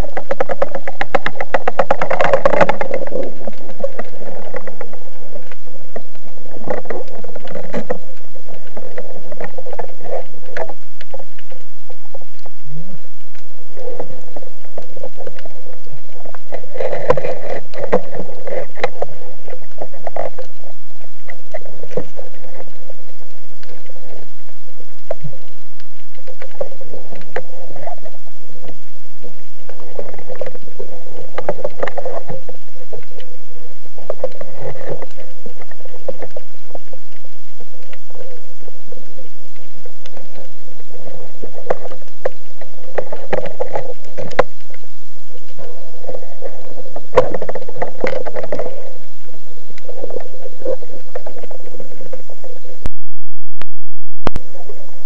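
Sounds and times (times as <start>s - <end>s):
muffled underwater clicks and knocks: 0.0s - 53.0s, 53.6s - 55.0s
steady hum: 0.0s - 55.0s.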